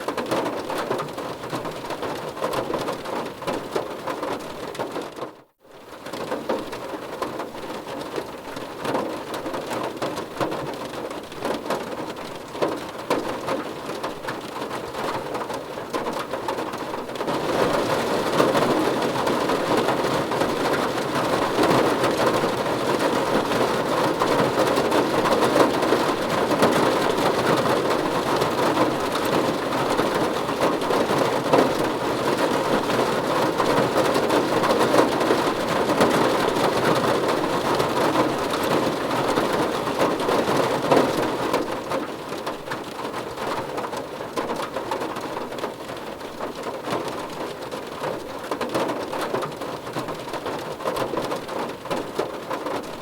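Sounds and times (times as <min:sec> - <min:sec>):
rain on a car roof: 0:00.0 - 0:53.0.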